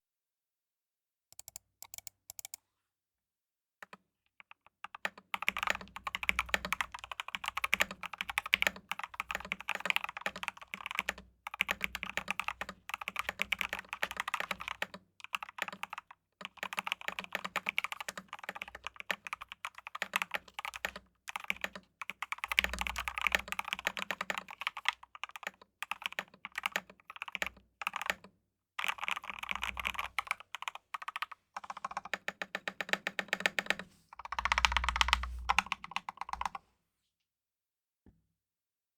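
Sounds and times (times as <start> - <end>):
typing on mechanical keyboard: 1.4 - 2.6, 3.8 - 36.6.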